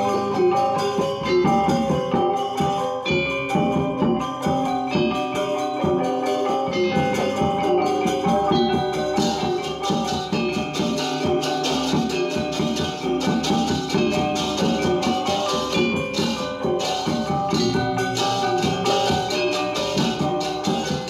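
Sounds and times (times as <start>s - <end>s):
gamelan metallophones and gong-chimes: 0.0s - 21.0s
small cymbals shimmering: 0.0s - 21.0s.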